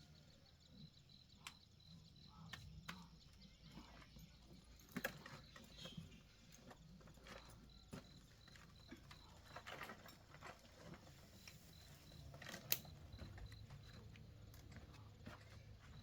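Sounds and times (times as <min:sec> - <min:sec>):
faint high chirp: 0:00.0 - 0:16.0.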